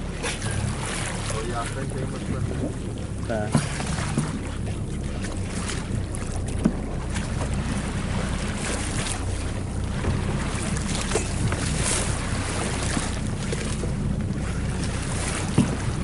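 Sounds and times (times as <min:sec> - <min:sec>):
motorboat engine running: 0:00.0 - 0:16.0
water rushing along hull: 0:00.0 - 0:16.0
wind buffeting microphone: 0:00.0 - 0:16.0.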